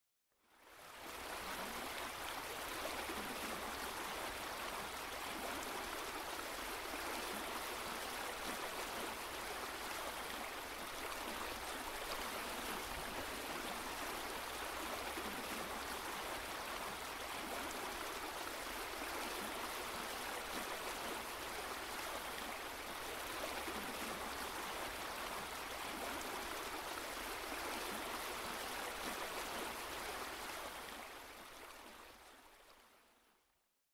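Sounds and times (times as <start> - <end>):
stream water rushing: 0.7 - 32.6.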